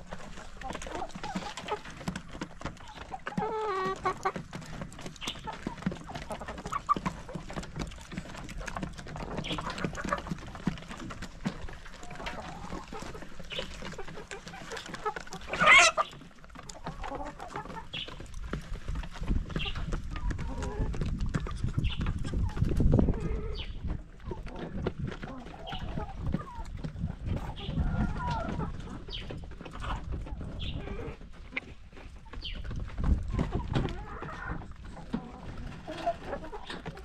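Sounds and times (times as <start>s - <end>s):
hens clucking: 0.0s - 37.0s.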